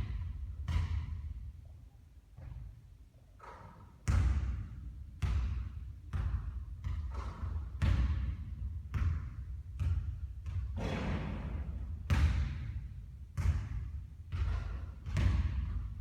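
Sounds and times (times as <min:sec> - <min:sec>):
basketball bouncing on a court: 0:00.0 - 0:01.5, 0:02.4 - 0:02.8, 0:03.4 - 0:16.0.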